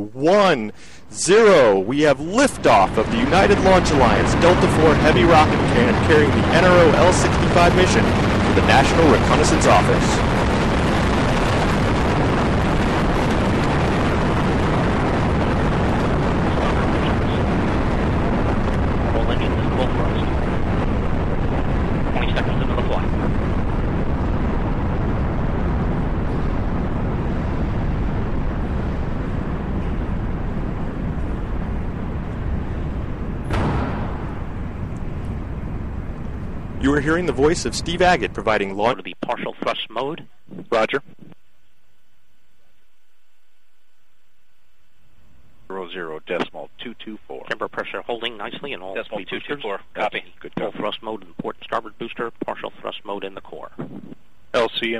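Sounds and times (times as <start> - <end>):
rocket engines roaring: 0.0 - 41.0, 45.7 - 53.5, 54.6 - 54.9.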